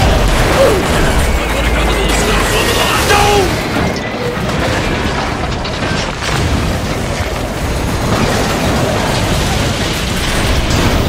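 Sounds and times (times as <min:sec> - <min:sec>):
crash impacts: 0:00.0 - 0:11.0
heavy train crash rumble: 0:00.0 - 0:11.0.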